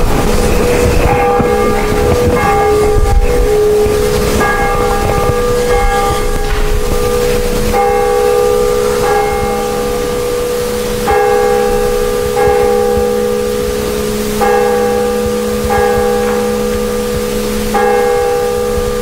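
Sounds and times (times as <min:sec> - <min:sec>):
church bell tolling: 0:00.0 - 0:19.0.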